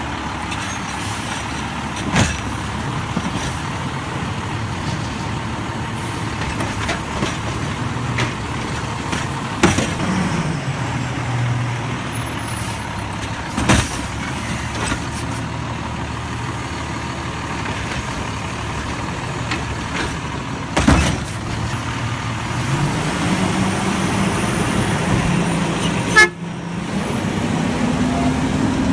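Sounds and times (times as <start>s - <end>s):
garbage truck engine revving: 0.0s - 28.9s.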